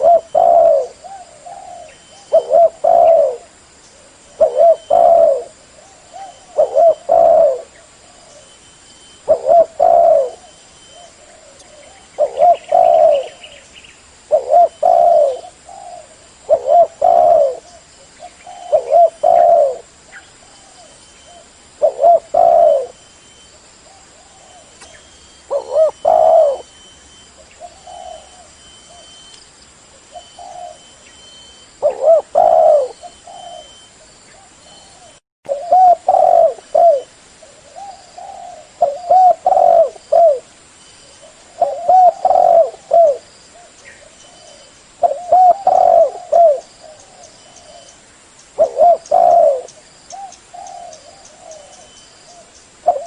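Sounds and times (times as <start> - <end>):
dove cooing: 0.0 - 13.6, 14.3 - 23.1, 23.8 - 29.3, 29.9 - 40.5, 41.1 - 48.0, 48.6 - 53.0.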